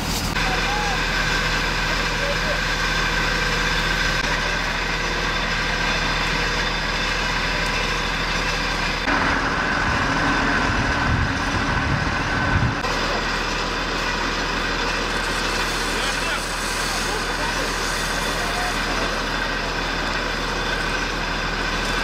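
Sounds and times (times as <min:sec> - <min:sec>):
fire truck engine running: 0:00.0 - 0:22.0.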